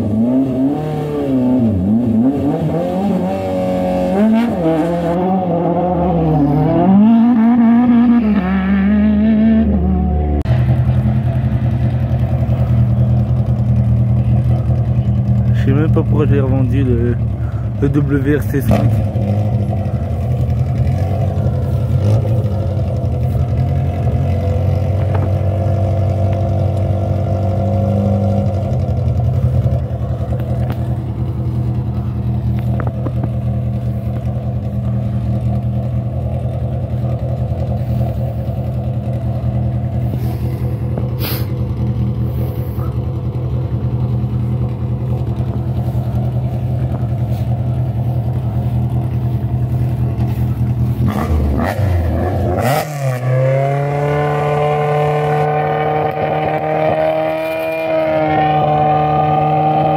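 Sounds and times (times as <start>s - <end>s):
rally car engine idling: 9.7s - 59.9s.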